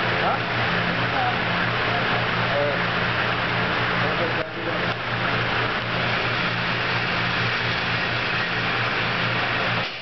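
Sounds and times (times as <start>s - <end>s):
ventilation rushing with low hum: 0.0s - 10.0s.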